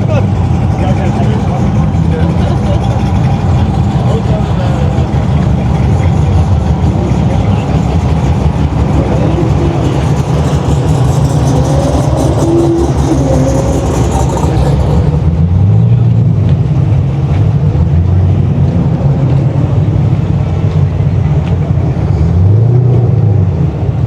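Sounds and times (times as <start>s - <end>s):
car engine running loudly: 0.0s - 24.0s.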